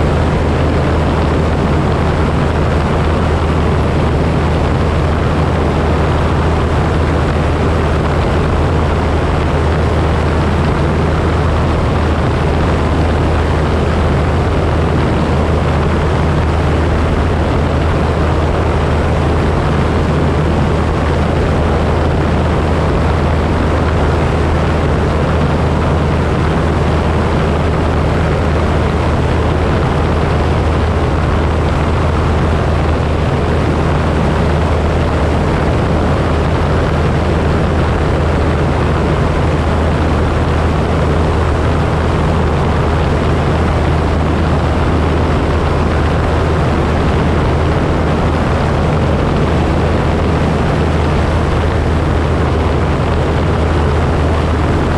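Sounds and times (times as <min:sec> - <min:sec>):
airflow rushing: 0:00.0 - 0:54.9
propeller plane engine drone: 0:00.0 - 0:54.9.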